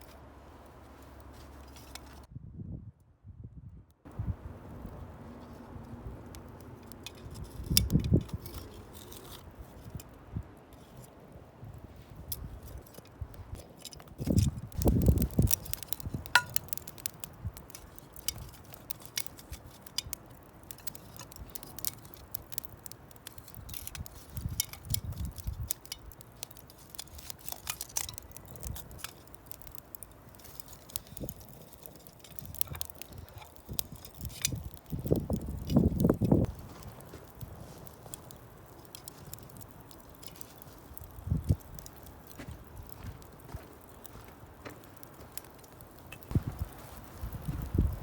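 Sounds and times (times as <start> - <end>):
wood fire crackling and popping: 0.0 - 2.3, 4.0 - 48.0.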